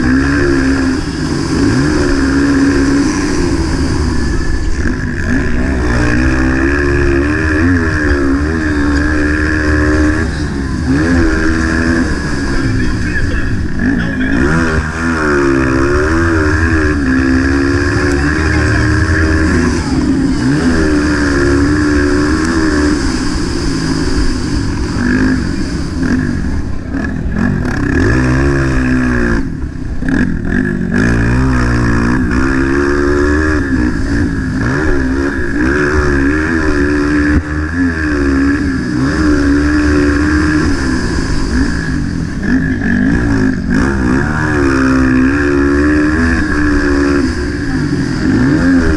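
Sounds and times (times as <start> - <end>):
motorbike engine revving: 0.0 - 48.9.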